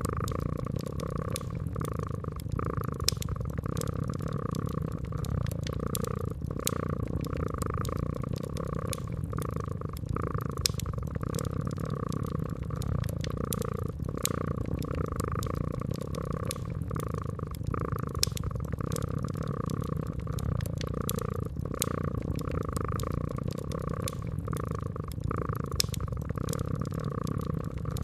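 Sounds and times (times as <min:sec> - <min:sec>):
cat purring: 0:00.0 - 0:28.0
wood fire crackling and popping: 0:00.0 - 0:28.0.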